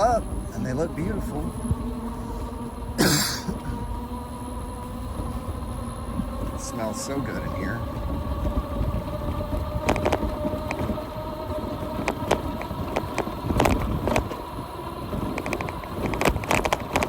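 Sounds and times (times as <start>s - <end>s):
electric motor whine: 0.0s - 17.0s
tyre and wind rumble: 0.0s - 17.0s.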